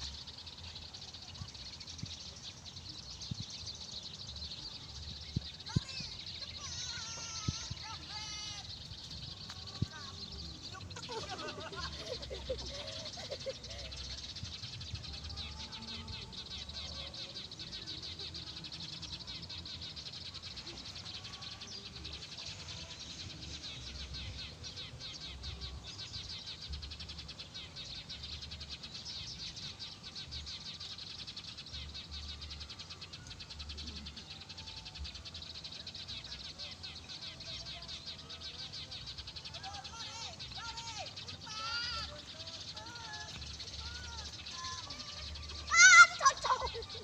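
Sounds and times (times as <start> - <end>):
animals chirping: 0.0 - 47.0.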